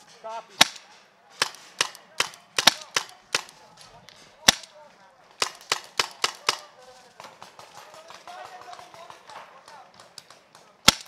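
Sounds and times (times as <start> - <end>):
paintball markers firing: 0.6 - 11.0.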